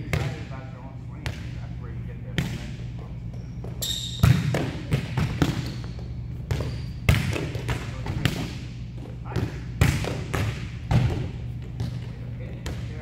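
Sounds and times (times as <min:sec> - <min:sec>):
steady low hum: 0:00.0 - 0:13.0
volleyballs hit and bouncing: 0:00.0 - 0:13.0.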